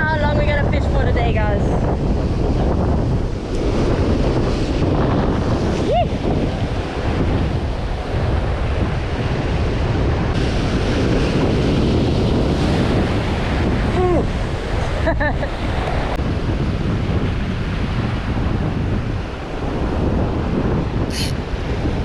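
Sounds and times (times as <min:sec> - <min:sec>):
wind buffeting microphone: 0:00.0 - 0:22.0
surf washing onto beach: 0:01.2 - 0:22.0.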